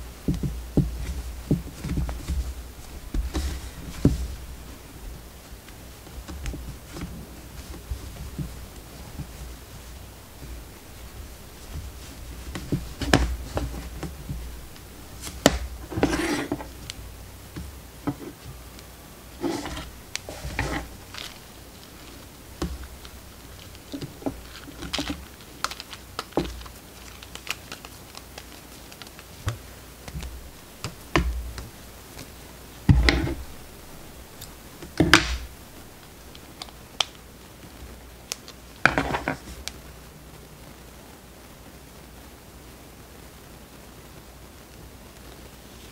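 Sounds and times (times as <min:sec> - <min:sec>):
cloth rustling: 0:00.0 - 0:39.9.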